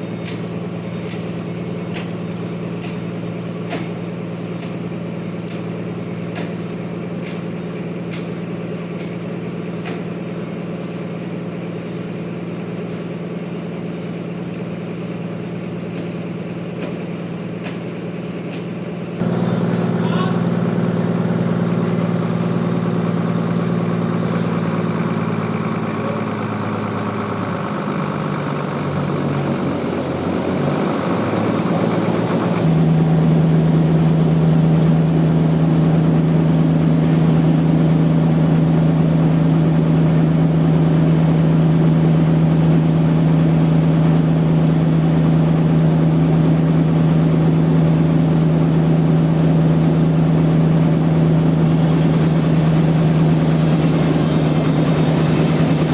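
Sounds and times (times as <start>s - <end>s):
sawmill machinery humming: 0.0s - 55.9s.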